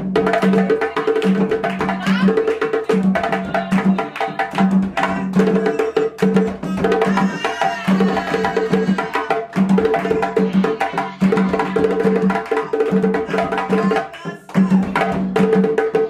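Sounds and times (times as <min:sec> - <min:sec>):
hand drums playing dance rhythm: 0:00.0 - 0:16.0.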